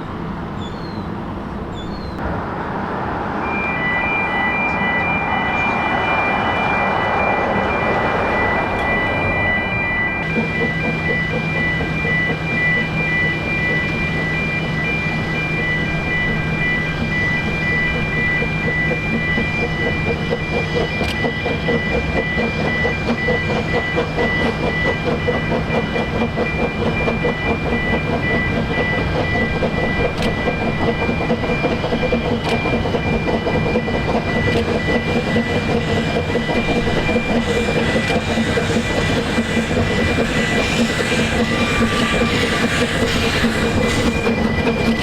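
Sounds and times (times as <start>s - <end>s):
train wheels rumbling on rail: 0.0s - 45.0s
high ringing tone: 2.9s - 45.0s.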